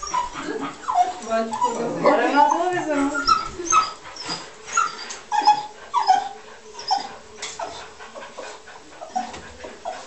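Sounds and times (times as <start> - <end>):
dogs whining and yelping: 0.0 - 10.0.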